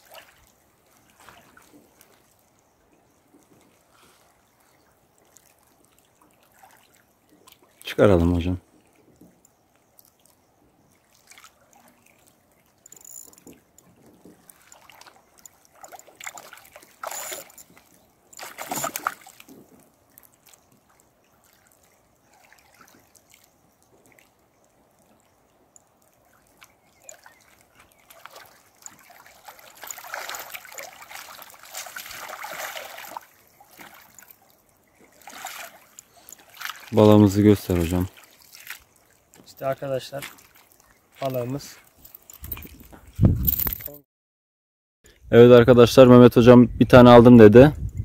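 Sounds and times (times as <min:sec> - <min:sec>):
water splashing and trickling: 0:00.0 - 0:44.0.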